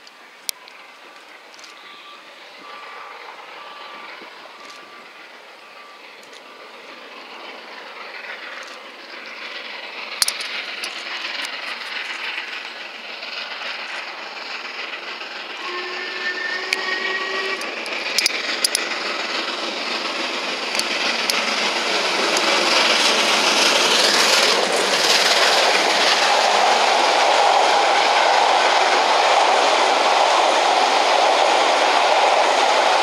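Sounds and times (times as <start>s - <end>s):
steam locomotive running: 0.0s - 33.0s.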